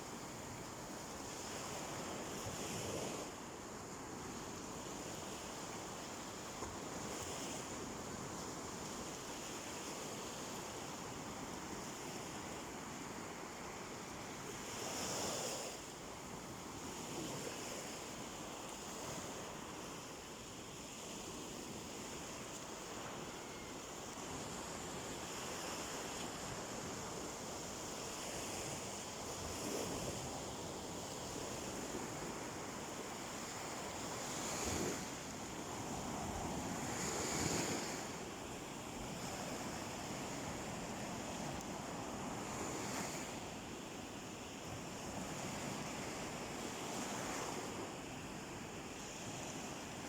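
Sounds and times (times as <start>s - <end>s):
waves washing onto a beach: 0.0s - 50.0s.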